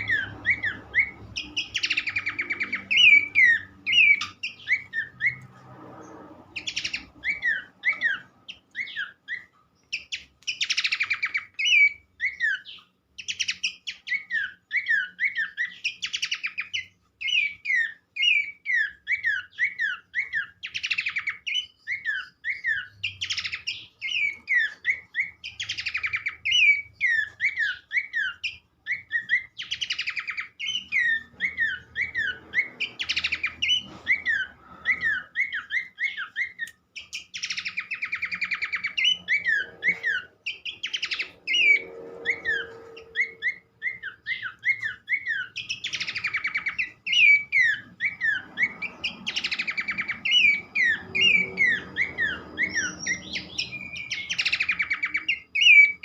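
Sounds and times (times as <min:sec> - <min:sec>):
babbler whistled song: 0:00.0 - 0:05.5, 0:06.6 - 0:56.0.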